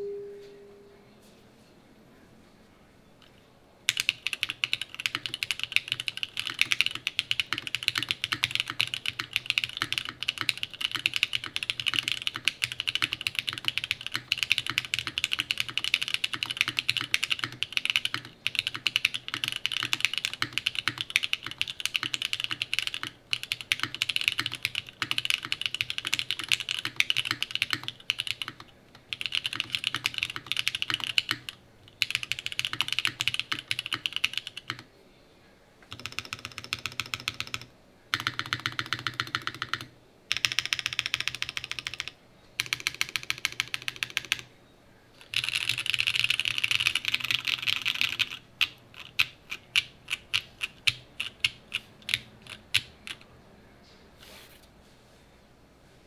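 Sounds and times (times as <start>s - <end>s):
fast typing on mechanical keyboard: 3.9s - 34.9s, 35.9s - 44.5s, 45.2s - 53.2s.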